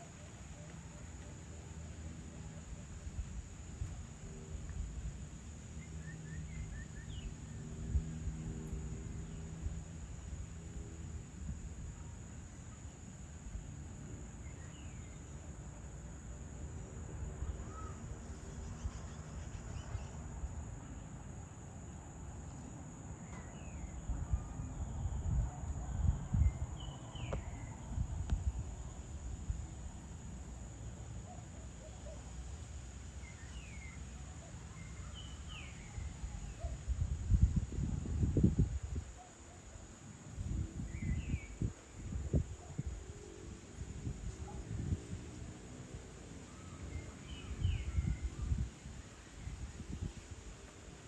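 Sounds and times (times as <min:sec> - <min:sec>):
high insect drone: 0:00.0 - 0:51.0.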